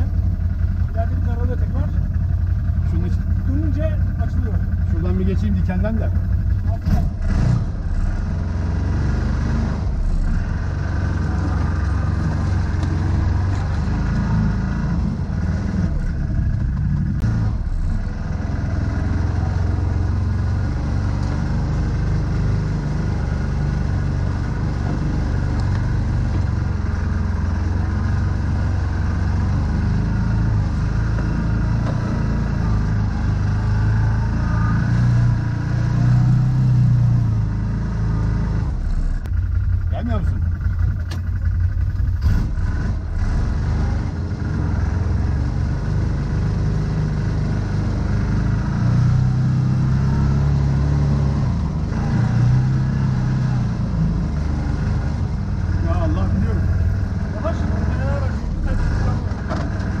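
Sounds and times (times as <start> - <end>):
engine running under light load: 0.0 - 60.0.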